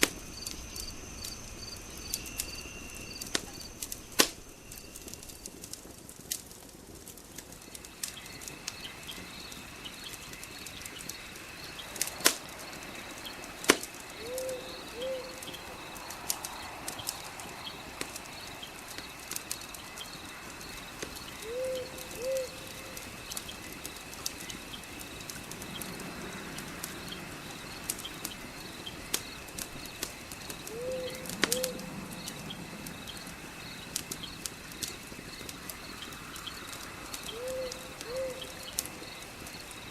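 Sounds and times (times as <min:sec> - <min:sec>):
insects chirring: 0:00.0 - 0:39.9
wood fire crackling and popping: 0:00.0 - 0:39.9.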